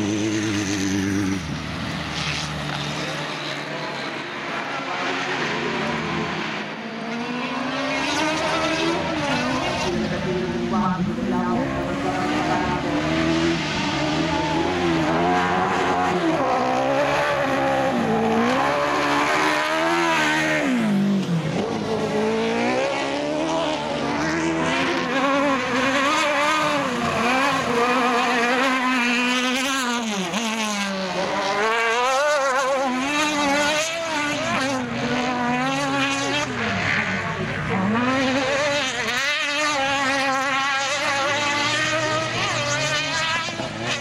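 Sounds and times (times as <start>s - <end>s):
buggy engines revving: 0.0s - 44.0s.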